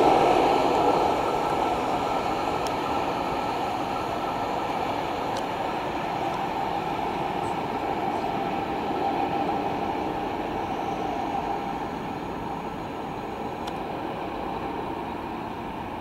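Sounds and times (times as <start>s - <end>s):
locomotive engine running: 0.0s - 16.0s
train wheels rolling on rails: 0.0s - 16.0s.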